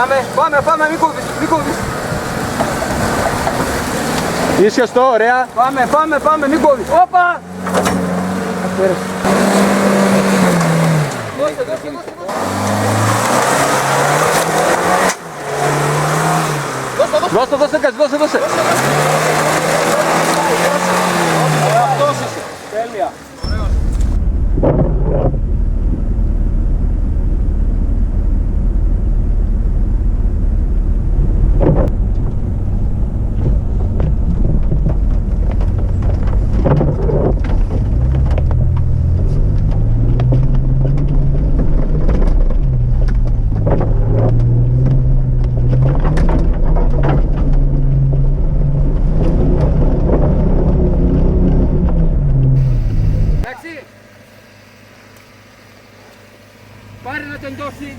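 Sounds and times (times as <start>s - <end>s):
off-road engine revving: 0.0s - 57.9s.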